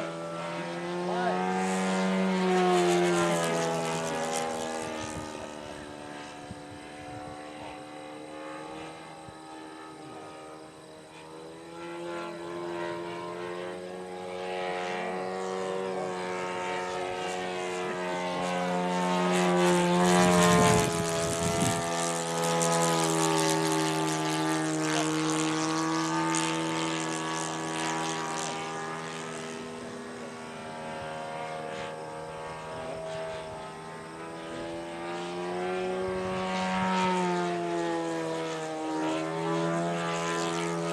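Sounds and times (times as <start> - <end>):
model plane propeller droning: 0.0 - 40.9.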